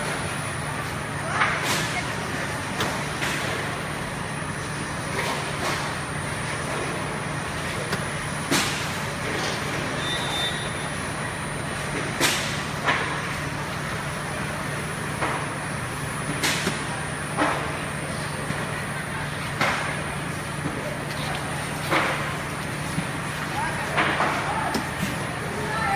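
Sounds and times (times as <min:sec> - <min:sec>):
oven conveyor mechanical hum: 0:00.0 - 0:25.9.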